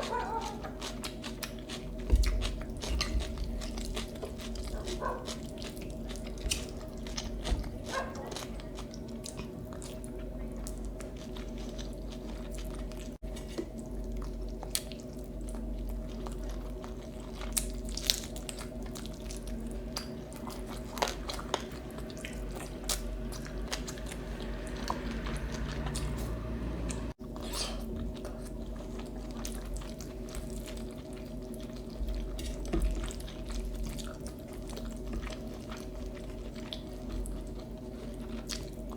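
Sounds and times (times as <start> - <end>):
person chewing: 0.0 - 38.9
steady low hum: 0.0 - 38.9.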